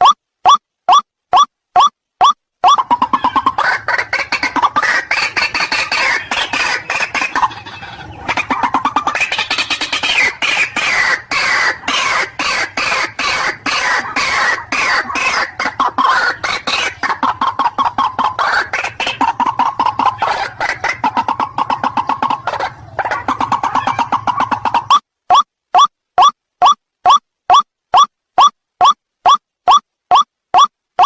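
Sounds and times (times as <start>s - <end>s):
bird calling harsh repeated notes: 0.0s - 30.7s.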